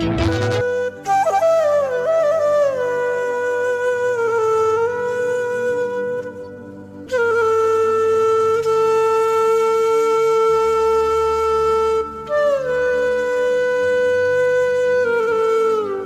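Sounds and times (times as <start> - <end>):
flute-like sliding notes: 0.0 - 16.0.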